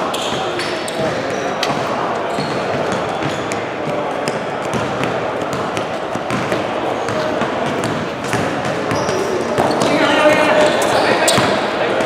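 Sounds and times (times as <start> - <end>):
gym background noise: 0.0 - 12.0
basketball bouncing: 0.2 - 11.6.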